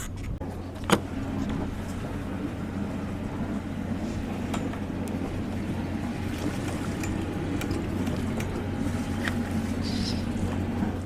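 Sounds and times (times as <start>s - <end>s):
diesel engine running low: 0.4s - 11.0s.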